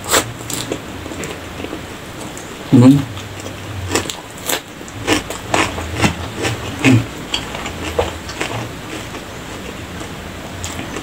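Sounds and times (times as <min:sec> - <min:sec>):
chewing crisp cucumber: 0:00.0 - 0:11.0.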